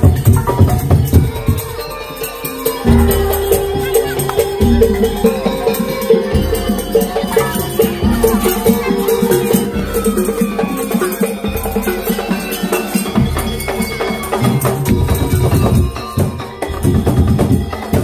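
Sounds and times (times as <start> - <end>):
drums and kettle gongs playing: 0.0 - 18.0.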